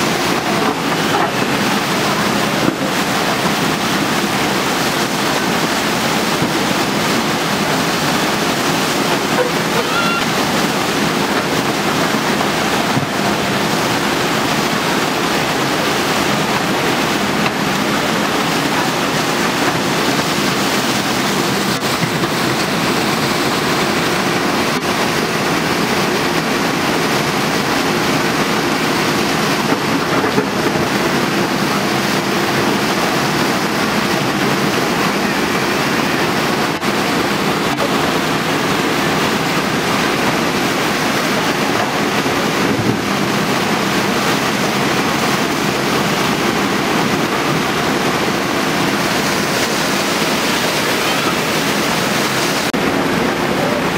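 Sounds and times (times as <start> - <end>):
diesel engine humming: 0.0 - 53.9
rushing floodwater and rain: 0.0 - 53.9.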